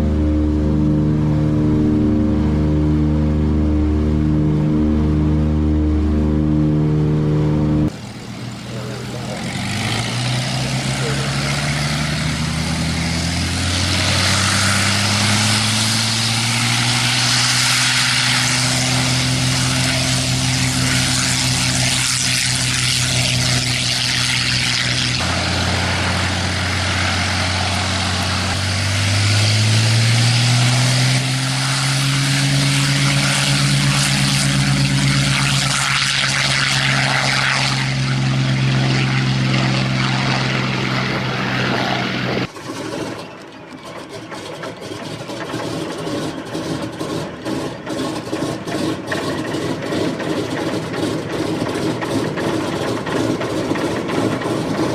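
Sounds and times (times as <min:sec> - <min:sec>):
propeller aircraft engine revving: 0:00.0 - 0:54.9.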